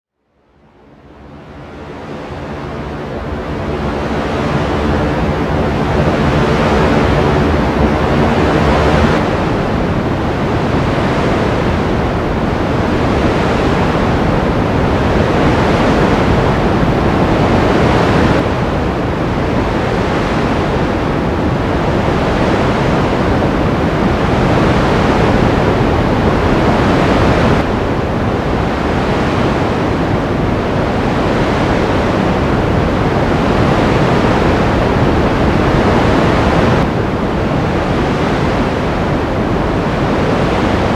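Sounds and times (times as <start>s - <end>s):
ocean waves: 2.2s - 40.9s.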